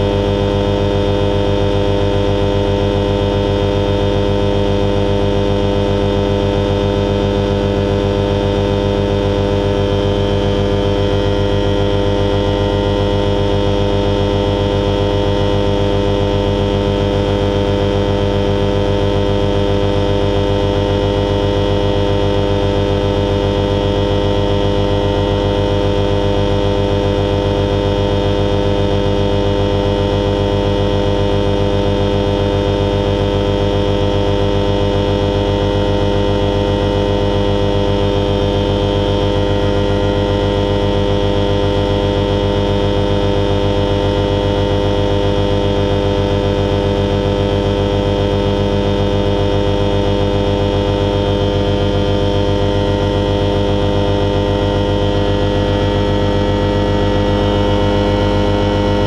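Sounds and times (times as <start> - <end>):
motorglider engine and propeller drone: 0.0 - 59.0.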